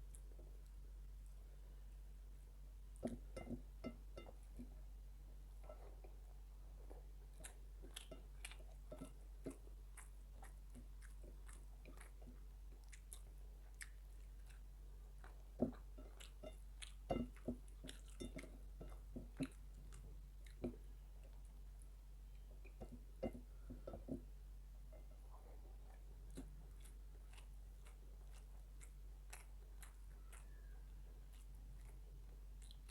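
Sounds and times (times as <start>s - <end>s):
person chewing food: 0.0s - 32.9s.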